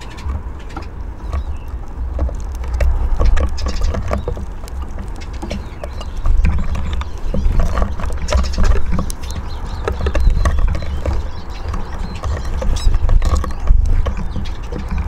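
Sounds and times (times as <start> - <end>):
beaks tapping on wood: 0.0 - 15.0
steady low rumble: 0.0 - 15.0.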